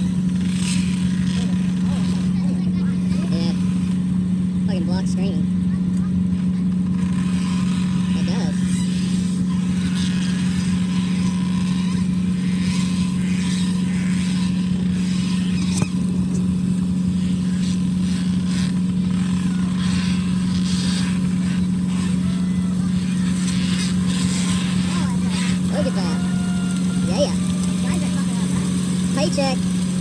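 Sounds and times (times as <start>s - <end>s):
boat engine humming: 0.0s - 30.0s.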